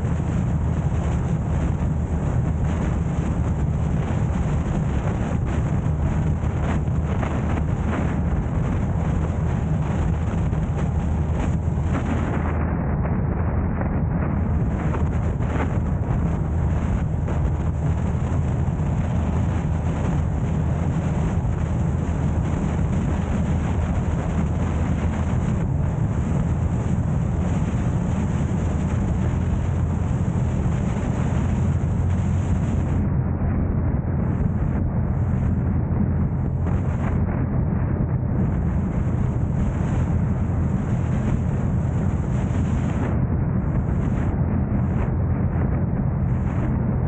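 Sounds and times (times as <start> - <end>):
car road noise rumble: 0.0 - 47.0.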